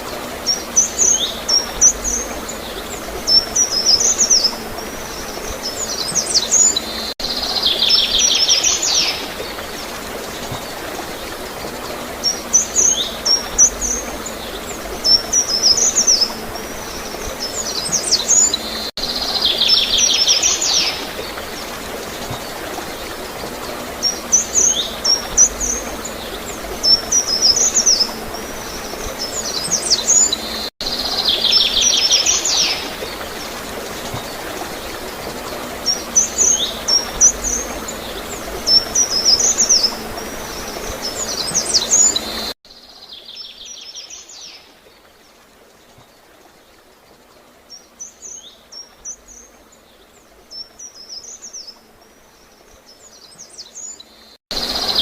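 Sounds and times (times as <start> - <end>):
flowing water gurgling: 0.0 - 55.0.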